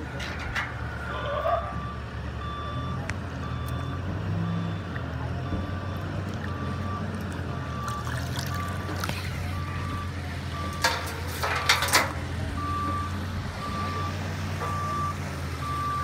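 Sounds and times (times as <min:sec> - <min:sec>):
reversing alarm beeping: 0:00.0 - 0:16.0
truck engine drone: 0:00.0 - 0:16.0.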